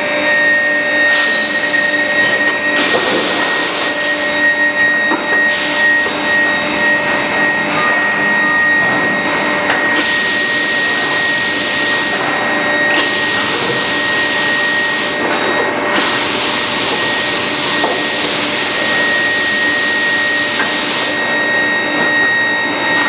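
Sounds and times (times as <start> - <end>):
high machine whine: 0.0 - 23.0.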